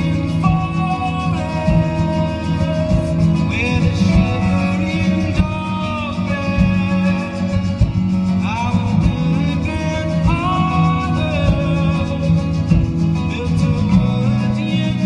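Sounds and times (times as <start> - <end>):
song with plucked guitar: 0.0 - 15.0.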